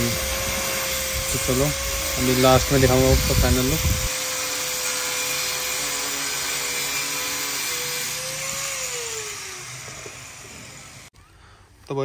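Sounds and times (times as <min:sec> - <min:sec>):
angle grinder cutting: 0:00.0 - 0:11.1.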